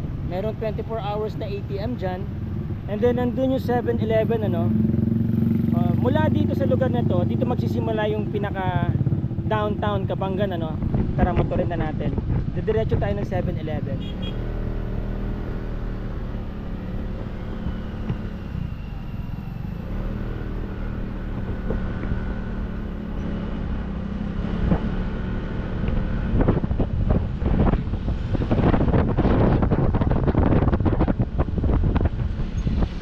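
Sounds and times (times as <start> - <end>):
wind buffeting microphone: 0.0 - 33.0
motorcycle engine running: 2.0 - 33.0.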